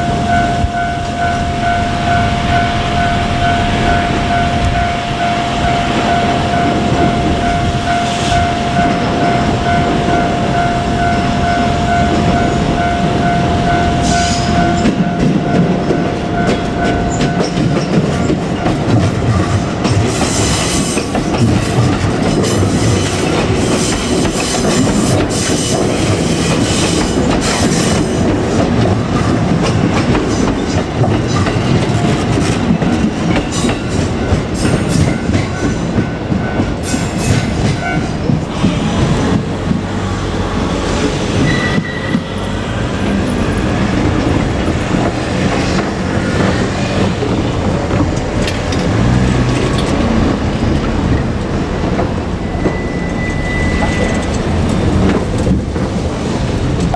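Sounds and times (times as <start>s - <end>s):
train rumbling: 0.0s - 56.9s
train wheels clickety-clack: 0.0s - 56.9s.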